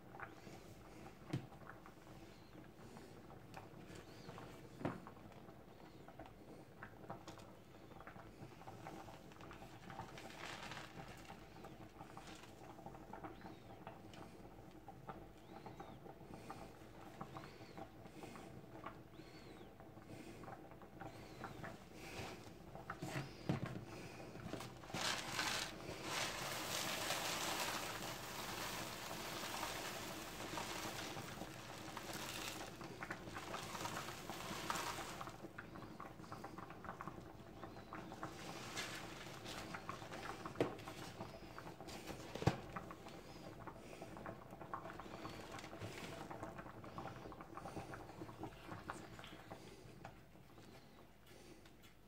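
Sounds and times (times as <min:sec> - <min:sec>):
porridge bubbling in a pot: 0:00.0 - 0:52.0.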